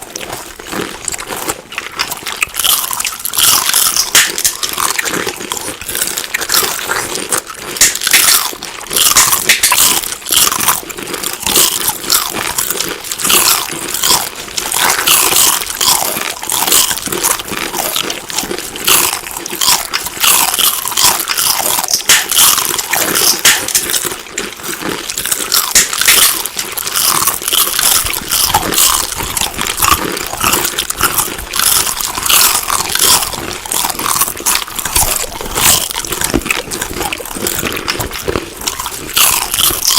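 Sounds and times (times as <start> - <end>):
crunchy chewing of food: 0.0 - 39.9.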